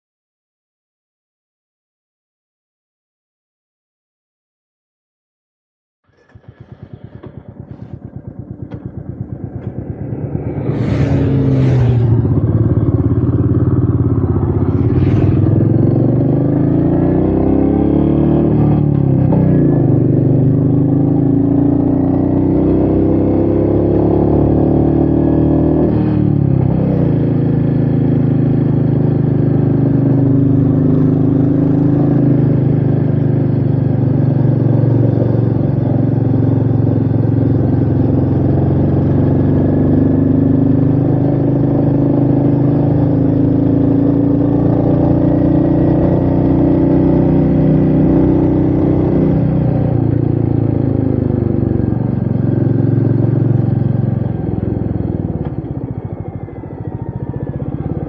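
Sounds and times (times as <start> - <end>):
motorcycle engine running: 6.0 - 58.0.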